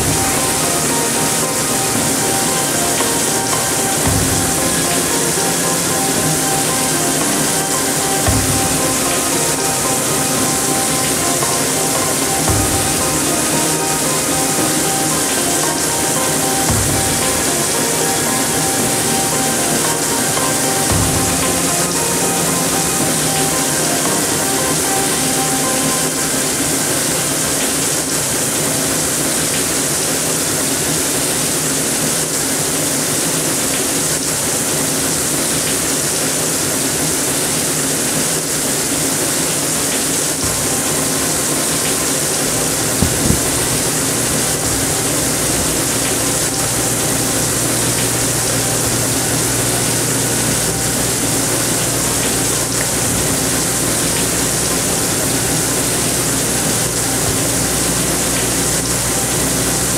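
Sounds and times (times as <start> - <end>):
rushing hissing water: 0.0 - 59.9.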